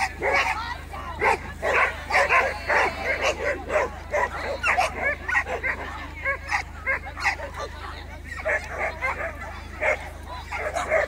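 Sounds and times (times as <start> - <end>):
dog barking and yipping: 0.0 - 7.7, 8.3 - 11.0.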